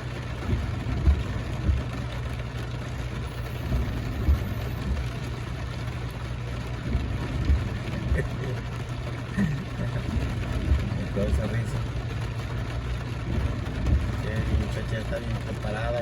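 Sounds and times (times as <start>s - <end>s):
rain hissing: 0.0s - 16.0s
truck engine idling: 0.0s - 16.0s
soft low thumps: 0.1s - 16.0s.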